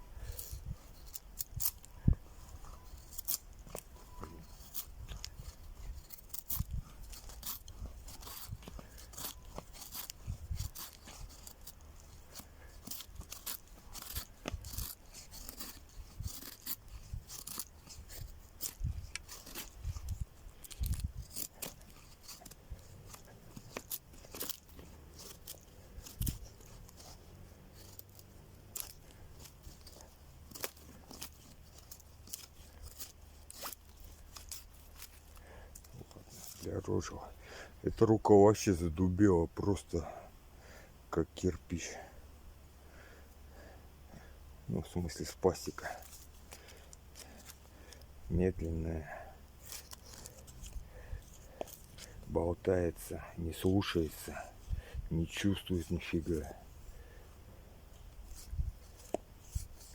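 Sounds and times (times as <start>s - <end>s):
knife scraping wood: 0.0s - 40.8s, 42.9s - 59.9s.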